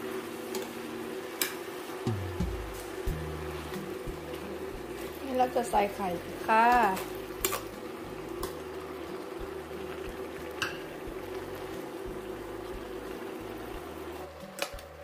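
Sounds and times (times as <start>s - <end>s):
food bubbling and sizzling in pan: 0.0s - 15.0s.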